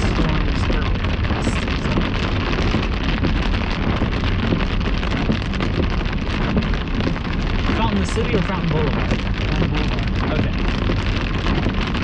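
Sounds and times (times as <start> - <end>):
car rolling on wet road: 0.0 - 12.0
rain pattering on a car: 0.0 - 12.0.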